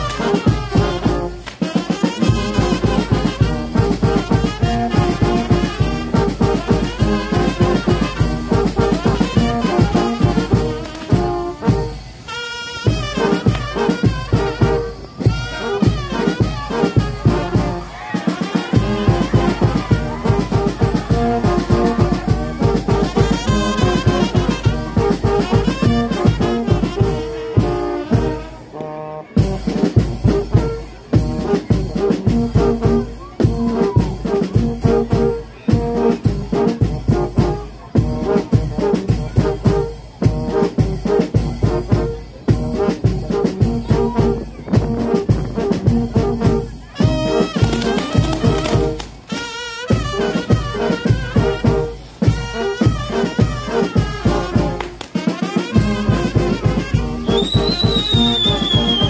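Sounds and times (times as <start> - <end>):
drums with steady beat: 0.0 - 28.7, 29.3 - 59.0
brass horns playing: 0.0 - 59.0.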